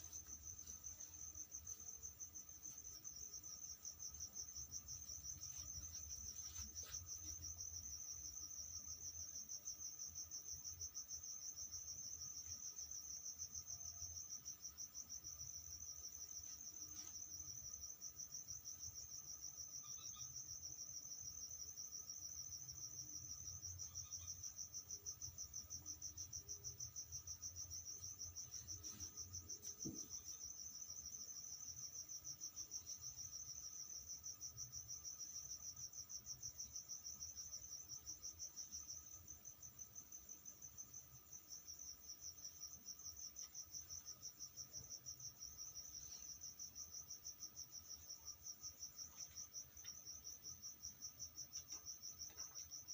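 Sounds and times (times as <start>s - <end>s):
cricket trilling: 0.0s - 52.9s.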